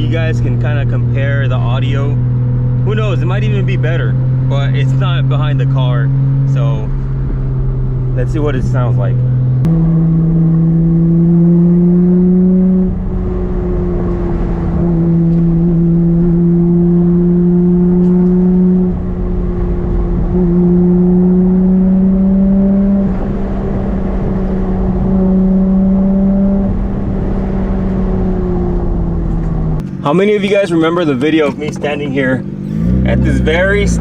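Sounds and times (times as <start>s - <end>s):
car engine and exhaust: 0.0s - 34.0s.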